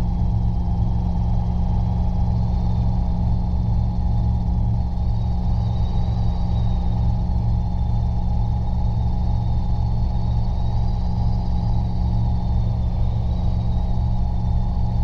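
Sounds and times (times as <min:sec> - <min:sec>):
faint high whine: 0:00.0 - 0:15.0
helicopter engine and rotor drone: 0:00.0 - 0:15.0.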